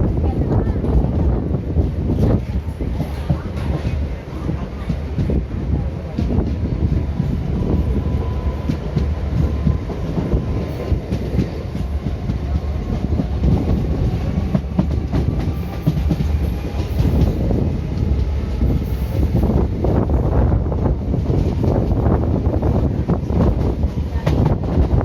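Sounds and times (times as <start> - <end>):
train coach rumbling: 0.0 - 25.0.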